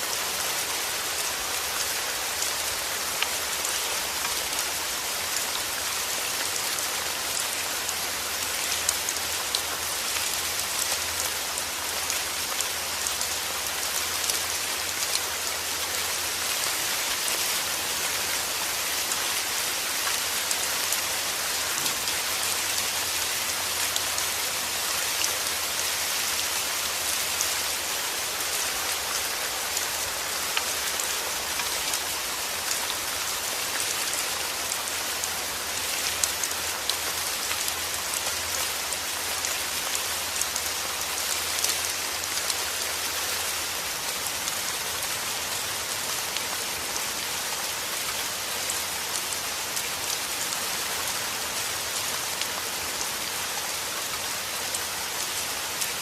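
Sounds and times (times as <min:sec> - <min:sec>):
heavy rain: 0:00.0 - 0:56.0
raindrops pattering on a surface: 0:00.1 - 0:56.0.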